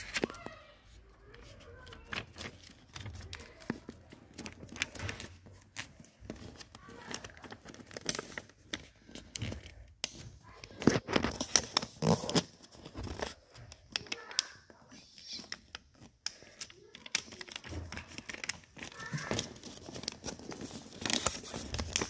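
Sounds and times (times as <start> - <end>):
paper rustling and crinkling: 0.0 - 22.0.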